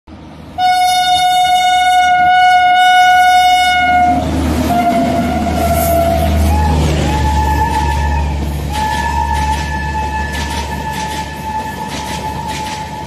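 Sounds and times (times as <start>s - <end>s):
passenger coaches rumbling past: 0.1s - 13.0s
locomotive horn blast: 0.6s - 13.0s.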